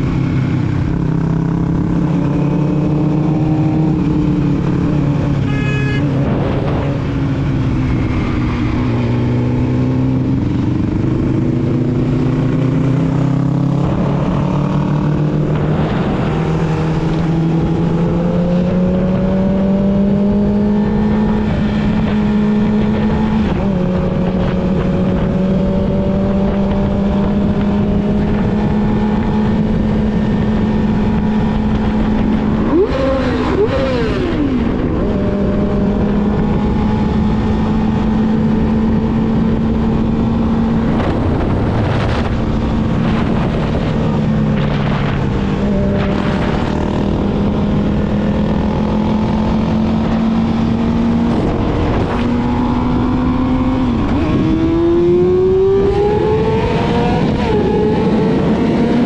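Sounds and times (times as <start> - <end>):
motorcycle engine while riding: 0.0 - 59.0.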